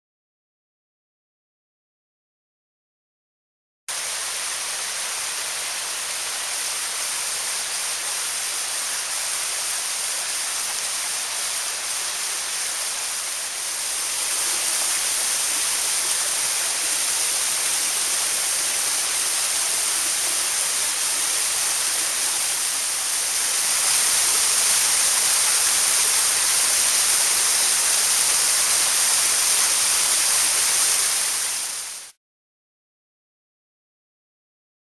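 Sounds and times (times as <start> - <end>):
waterfall hiss: 3.9 - 32.2.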